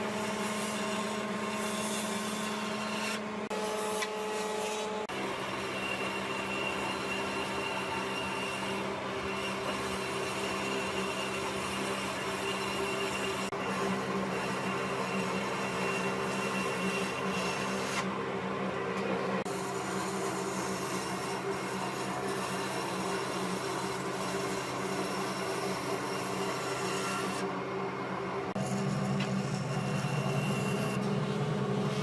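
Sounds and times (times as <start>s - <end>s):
woodworking power tool running: 0.0s - 32.0s.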